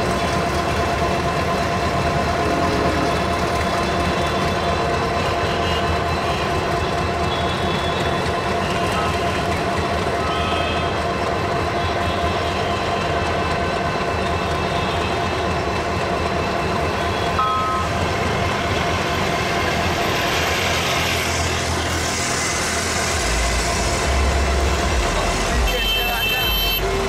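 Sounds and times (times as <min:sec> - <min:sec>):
freight train rumbling: 0:00.0 - 0:27.0.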